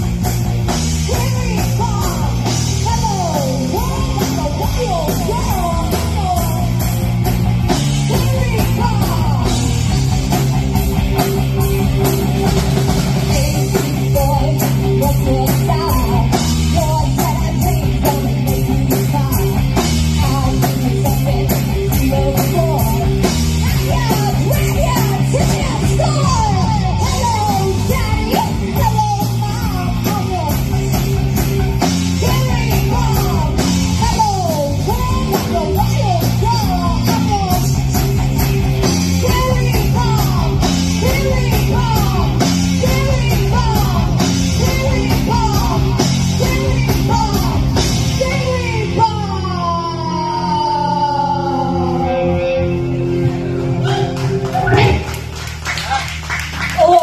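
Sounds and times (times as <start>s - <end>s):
drum kit: 0.0s - 51.1s, 53.2s - 57.0s
bass guitar: 0.0s - 57.0s
electric guitars: 0.0s - 57.0s
woman singing: 1.0s - 6.9s, 8.0s - 10.0s, 13.2s - 31.1s, 32.2s - 52.4s.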